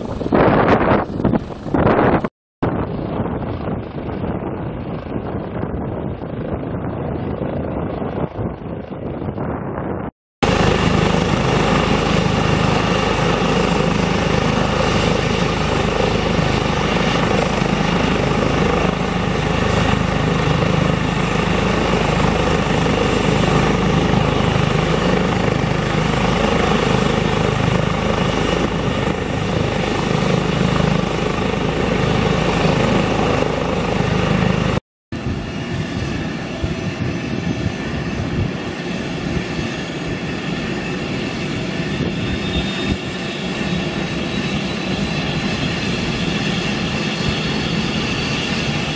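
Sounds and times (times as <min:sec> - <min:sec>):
helicopter rotor noise: 0:00.0 - 0:48.9
helicopter turbine whine: 0:00.0 - 0:48.9.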